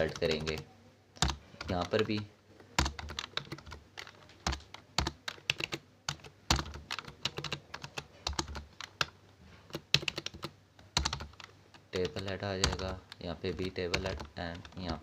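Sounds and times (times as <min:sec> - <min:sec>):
computer keyboard typing: 0:00.0 - 0:15.0.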